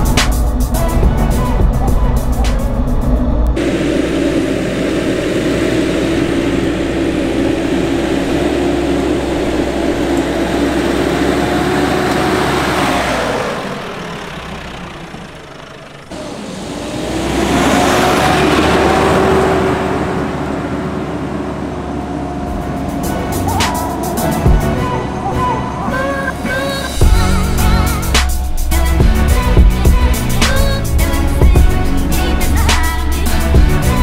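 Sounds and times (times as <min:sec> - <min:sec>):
vehicle engine driving past: 0:00.8 - 0:34.0.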